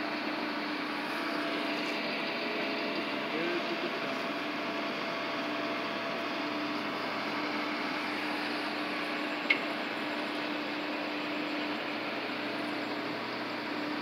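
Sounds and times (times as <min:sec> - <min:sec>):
distant machinery: 0:00.4 - 0:14.0.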